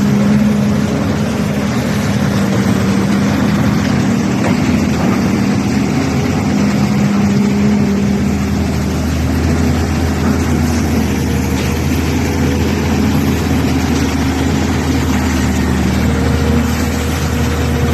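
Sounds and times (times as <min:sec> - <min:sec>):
backhoe engine running: 0:00.0 - 0:17.9.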